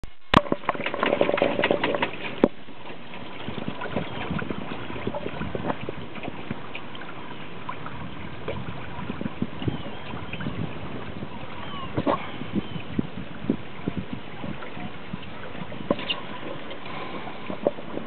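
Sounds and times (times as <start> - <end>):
water splashing along hull: 0.0 - 18.0.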